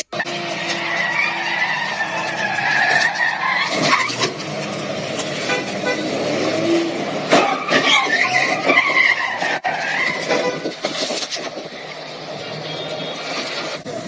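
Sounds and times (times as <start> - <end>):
car engine and road noise: 0.0 - 14.0
tyres squealing: 0.0 - 14.0.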